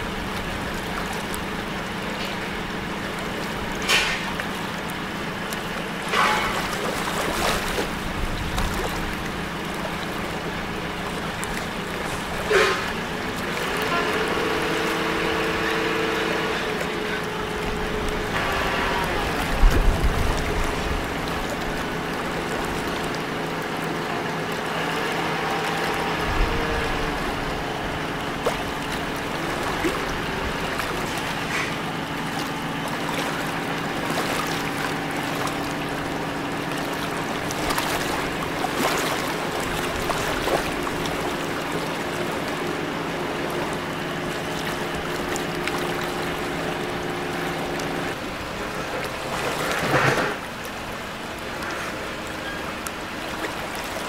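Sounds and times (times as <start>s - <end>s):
diesel engines humming: 0.0s - 53.9s
water wash: 0.0s - 54.0s.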